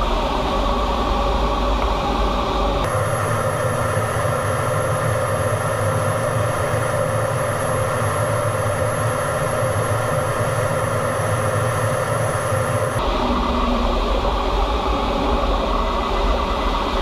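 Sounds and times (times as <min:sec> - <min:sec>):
jet engine rumble and whine: 0:00.0 - 0:17.0.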